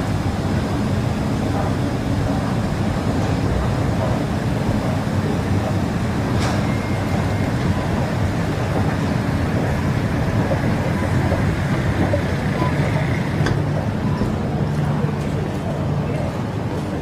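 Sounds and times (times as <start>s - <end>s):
machinery and ventilation drone: 0.0s - 17.0s.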